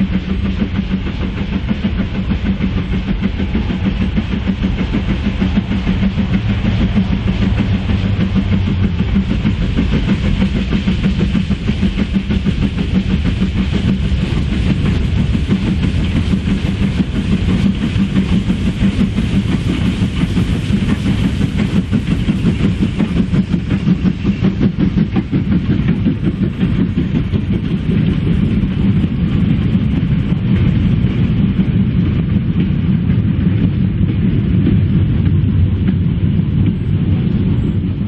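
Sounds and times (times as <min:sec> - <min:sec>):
train wheels clattering over rail joints: 0:00.0 - 0:38.0.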